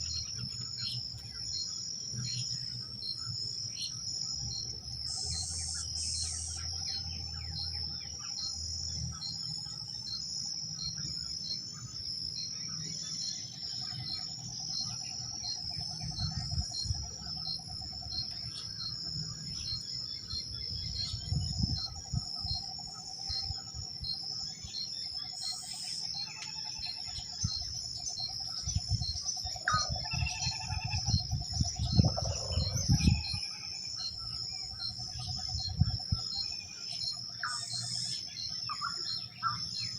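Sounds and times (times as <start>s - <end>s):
pulsing insect trill: 0.0s - 39.9s.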